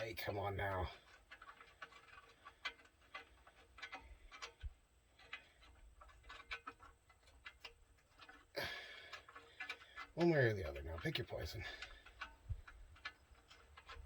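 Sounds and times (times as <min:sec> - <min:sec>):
metal hardware clicking and tapping: 0:00.0 - 0:14.0.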